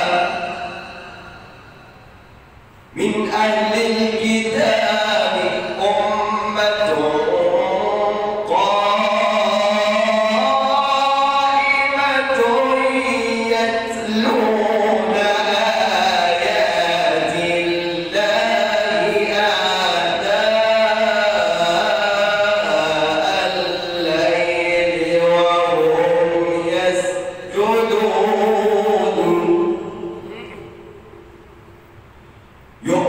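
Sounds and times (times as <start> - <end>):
man chanting melodically: 0.0 - 2.0, 2.9 - 31.4, 32.8 - 33.0.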